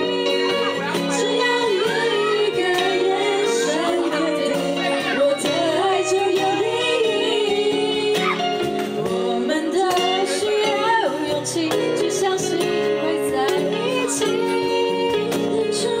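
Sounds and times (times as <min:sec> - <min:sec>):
guitar chords: 0:00.0 - 0:16.0
woman singing into a microphone: 0:00.0 - 0:16.0.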